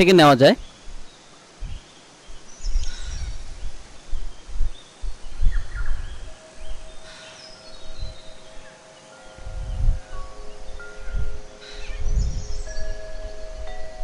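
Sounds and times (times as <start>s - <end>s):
faint bird chirps: 0.6s - 14.0s.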